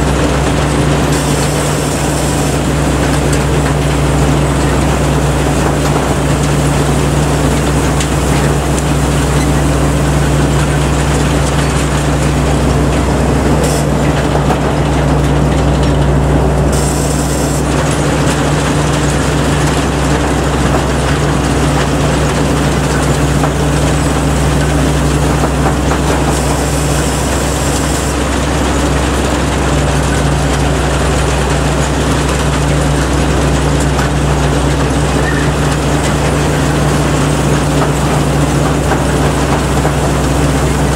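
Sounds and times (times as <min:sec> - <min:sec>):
combine harvester engine drone: 0:00.0 - 0:40.9
harvesting machinery clatter: 0:00.0 - 0:40.9.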